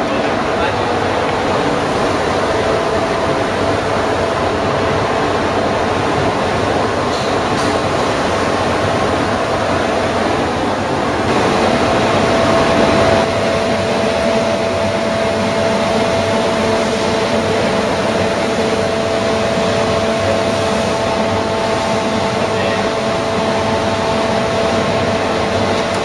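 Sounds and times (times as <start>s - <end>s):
machine hum with steady tones: 0.0s - 26.0s.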